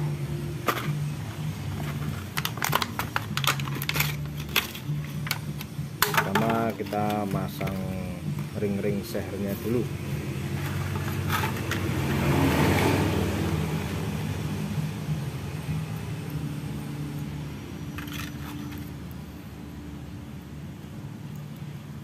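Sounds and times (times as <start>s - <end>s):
vehicle engine running: 0.0s - 19.1s.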